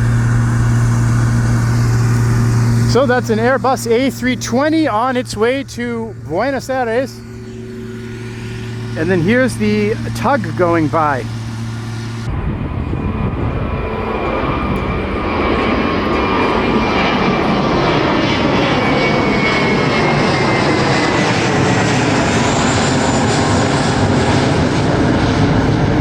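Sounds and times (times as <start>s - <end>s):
jet airliner taking off: 0.0s - 26.0s.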